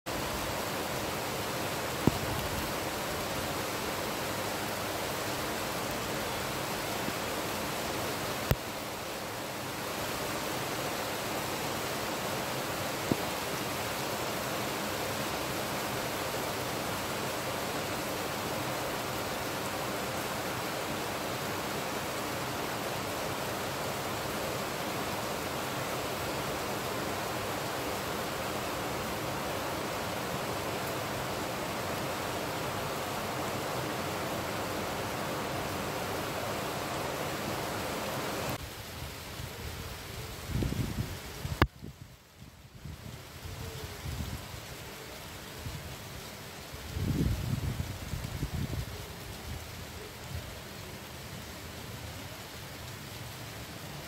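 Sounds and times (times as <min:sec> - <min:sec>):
heavy rain hissing: 0:00.1 - 0:54.0.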